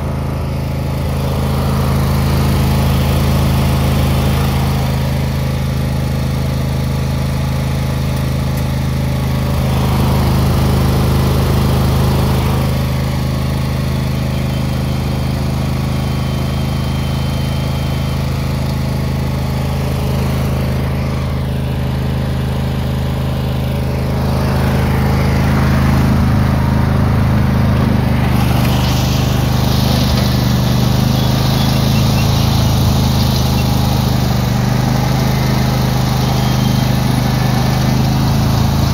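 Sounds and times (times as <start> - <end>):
lawn tractor engine running: 0.0 - 38.9
gravel crunching under wheels: 7.5 - 38.9.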